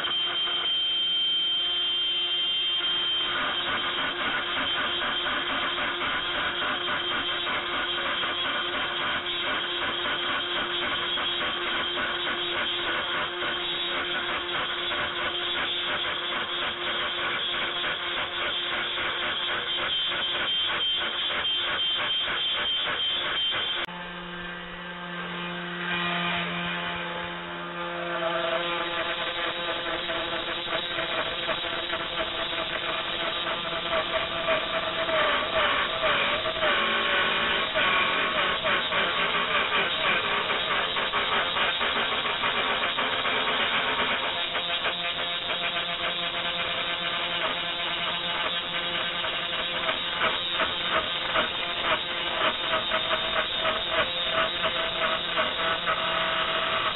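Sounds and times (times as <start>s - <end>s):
cnc router milling wood: 0.0s - 56.9s.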